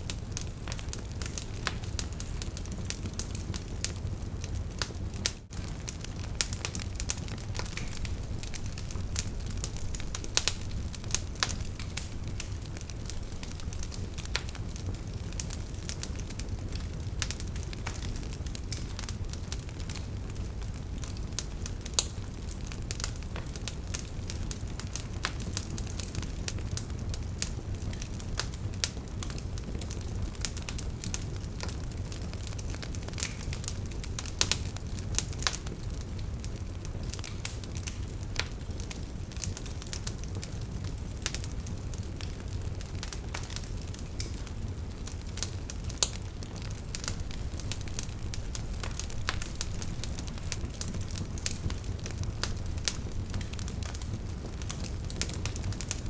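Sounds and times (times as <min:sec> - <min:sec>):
campfire wood crackling: 0:00.0 - 0:56.0
low rumble of flame: 0:00.0 - 0:56.0.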